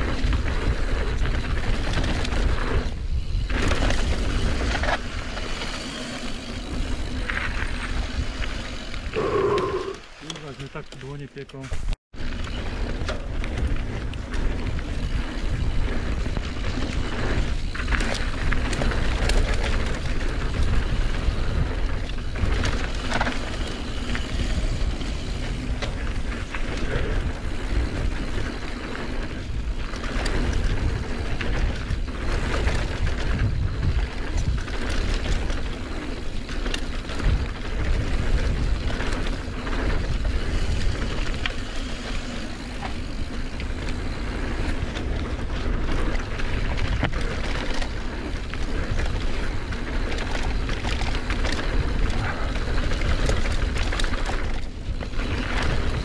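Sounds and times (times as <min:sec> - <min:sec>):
bike rattles and knocks: 0:00.0 - 0:09.1, 0:10.2 - 0:56.0
wind rushing over microphone: 0:00.0 - 0:10.2, 0:12.2 - 0:56.0
bike tyre noise on dirt: 0:00.0 - 0:56.0.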